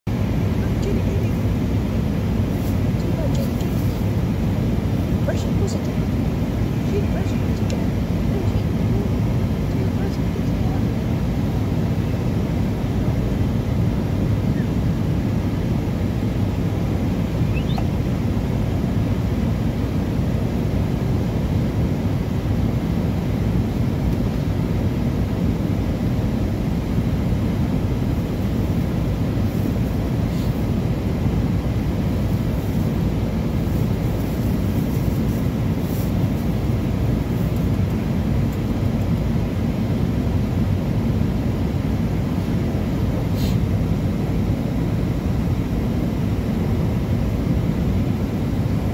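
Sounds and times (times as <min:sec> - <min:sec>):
car engine rumble inside cabin: 0:00.1 - 0:48.9.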